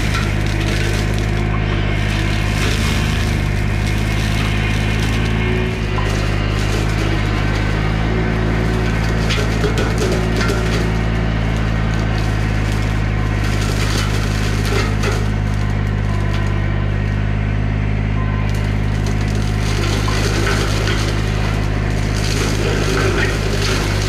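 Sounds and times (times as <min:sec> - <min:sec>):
wood crunching and splintering: 0:00.0 - 0:17.7, 0:18.4 - 0:24.0
diesel engine running under load: 0:00.0 - 0:24.0.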